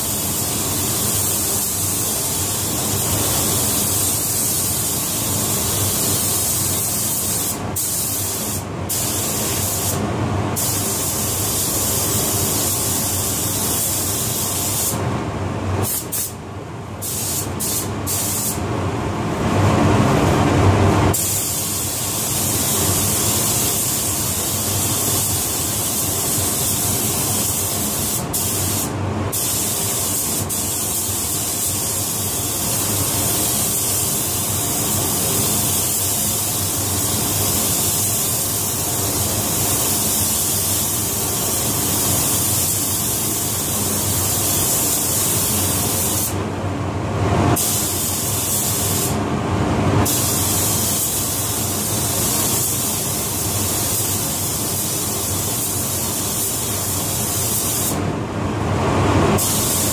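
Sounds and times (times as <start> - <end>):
spray gun hissing: 0.0 - 10.0, 10.6 - 15.0, 15.8 - 16.4, 17.0 - 18.6, 21.1 - 46.4, 47.6 - 49.2, 50.0 - 58.0, 59.4 - 59.9.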